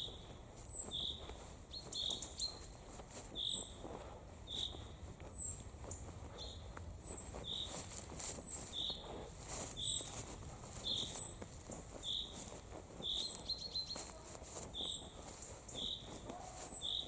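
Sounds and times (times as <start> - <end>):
songbird calling: 0.0 - 2.7, 3.3 - 3.8, 4.5 - 5.6, 6.4 - 10.2, 10.8 - 17.0.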